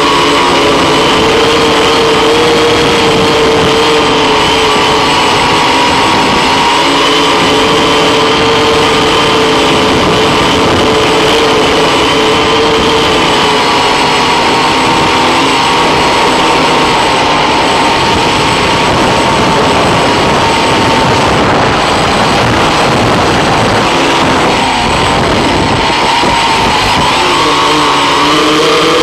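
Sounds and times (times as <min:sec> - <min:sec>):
drone motors whining: 0:00.0 - 0:29.0
propeller rushing noise: 0:00.0 - 0:29.0.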